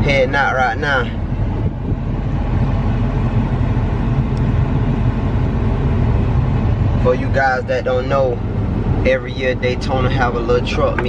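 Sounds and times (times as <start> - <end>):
pickup engine rumble: 0.0 - 11.0.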